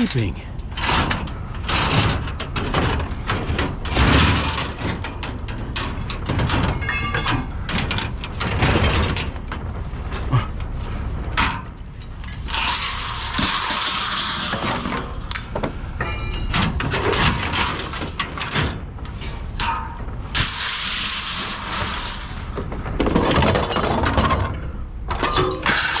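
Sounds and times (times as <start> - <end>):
scrap metal clattering: 0.6 - 26.0.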